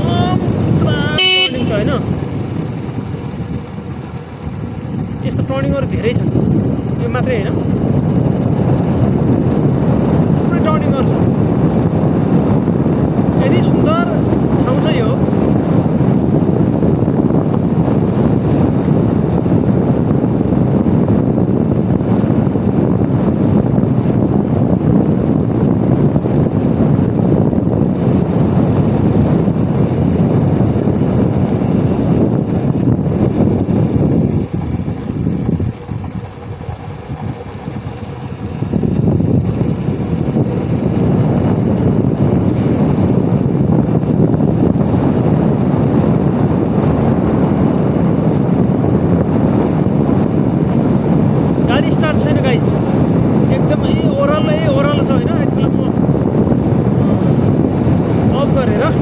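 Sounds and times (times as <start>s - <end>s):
heavy wind buffeting microphone: 0.0s - 59.0s.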